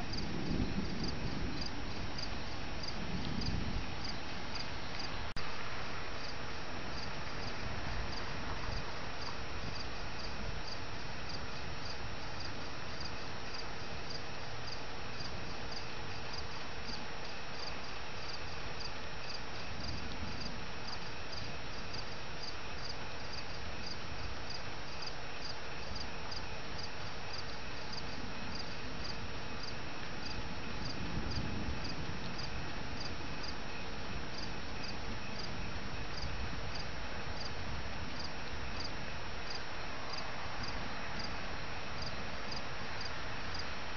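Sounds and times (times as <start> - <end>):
background hiss: 0.0 - 43.9
crickets chirping: 0.0 - 43.9.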